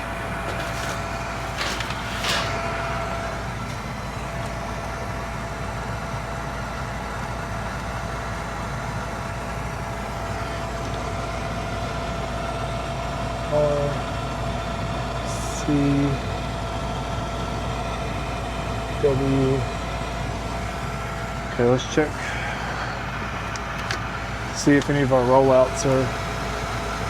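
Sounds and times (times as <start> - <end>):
furnace motor humming with faint whine: 0.0 - 27.0.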